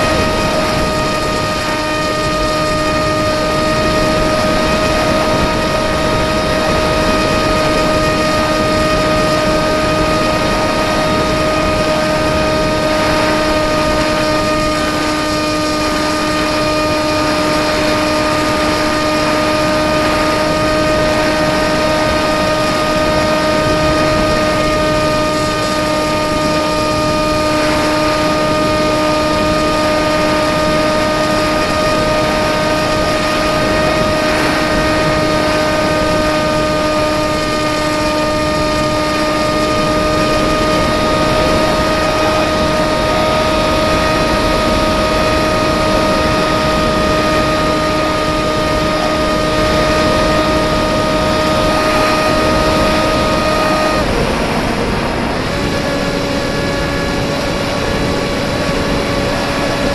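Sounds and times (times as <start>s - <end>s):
air rushing: 0.0s - 59.9s
model plane motor humming: 0.0s - 59.9s.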